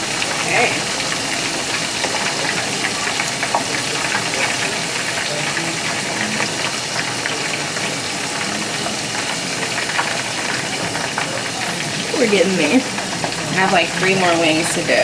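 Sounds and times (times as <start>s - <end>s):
chicken wings deep-frying in oil: 0.0s - 15.0s.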